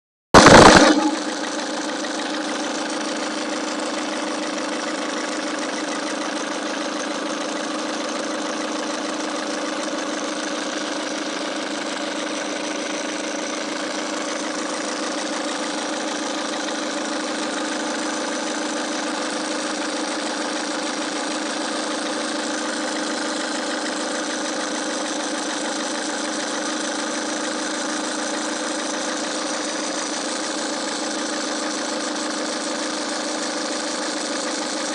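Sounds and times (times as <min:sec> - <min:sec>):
drive belt noise: 0:00.4 - 0:34.9
diesel engine idling: 0:01.0 - 0:34.8.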